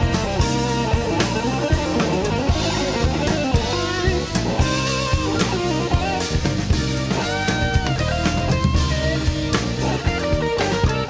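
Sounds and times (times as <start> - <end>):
bass guitar: 0.0 - 11.0
drum kit beat: 0.0 - 11.0
electric guitar lead: 0.0 - 11.0.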